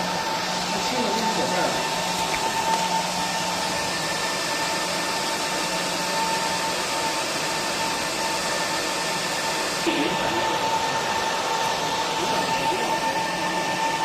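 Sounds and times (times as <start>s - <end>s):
cooling fan whooshing: 0.0s - 14.0s
steady whine: 0.0s - 14.0s.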